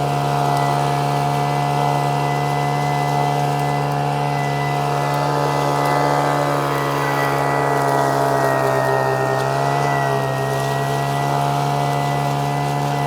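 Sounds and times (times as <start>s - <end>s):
small vacuum engine running: 0.0s - 13.0s.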